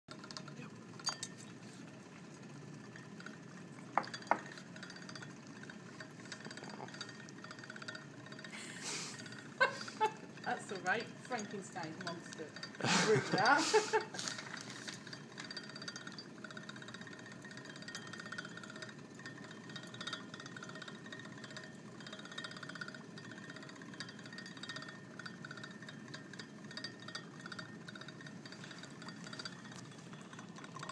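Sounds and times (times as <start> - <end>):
dry ice bubbling and fizzing: 0.1 - 30.9.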